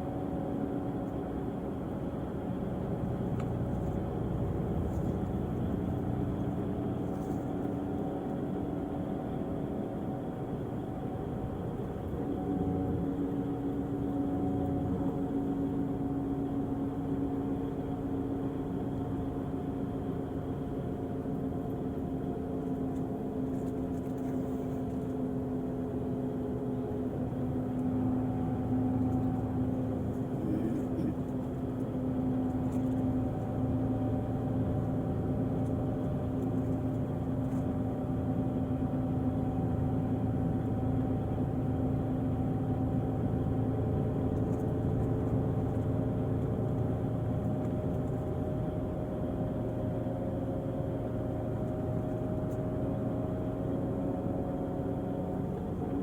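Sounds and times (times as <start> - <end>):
diesel coach engine droning: 0.0 - 56.0.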